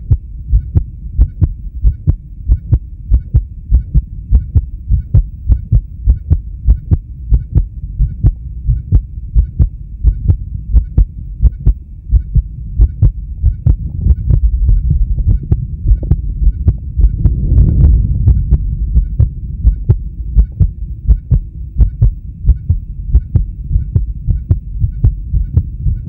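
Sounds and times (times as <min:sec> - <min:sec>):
heart beating: 0:00.0 - 0:26.0
low hum: 0:00.0 - 0:26.0.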